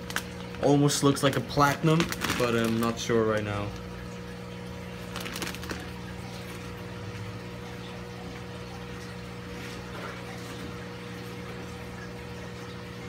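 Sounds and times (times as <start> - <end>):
aquarium pumps humming: 0.0 - 13.0
water flowing: 0.0 - 13.0.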